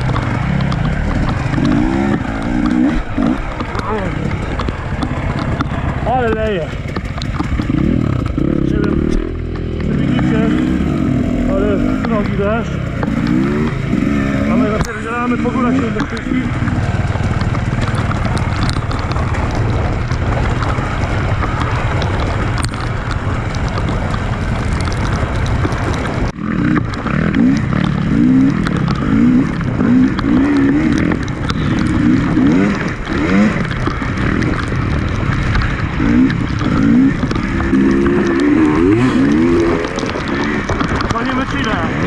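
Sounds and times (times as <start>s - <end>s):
dense rushing noise: 0.0s - 42.0s
dirt bike engine revving: 0.0s - 42.0s.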